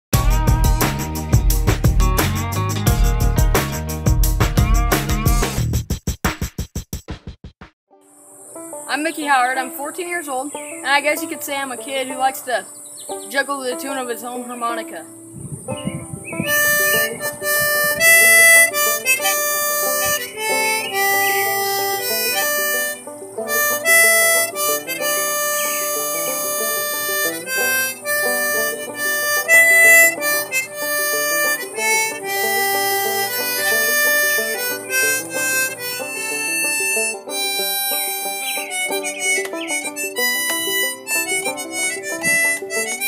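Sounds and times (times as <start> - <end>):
harmonica playing: 0.2 - 5.6, 9.0 - 43.0.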